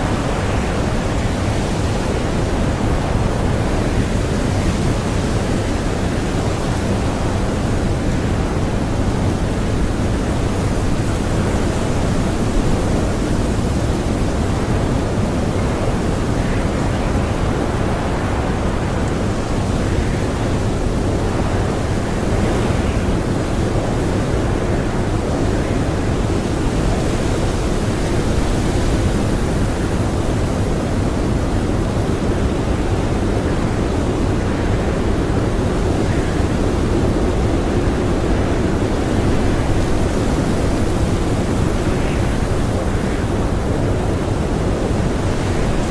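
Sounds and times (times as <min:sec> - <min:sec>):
blizzard wind blowing: 0:00.0 - 0:45.9.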